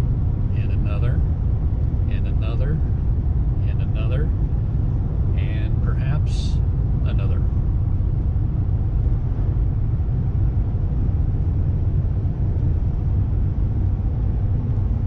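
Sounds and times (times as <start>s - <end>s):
road and engine rumble in car: 0.0s - 15.0s.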